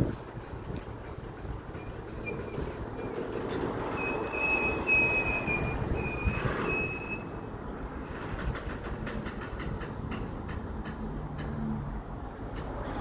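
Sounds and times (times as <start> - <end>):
freight train rumble: 0.0 - 13.0
wheels squealing on rails: 0.0 - 13.0.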